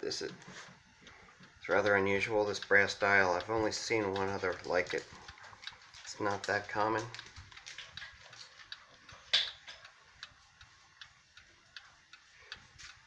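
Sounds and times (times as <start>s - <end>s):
mantel clock ticking: 1.0s - 13.0s.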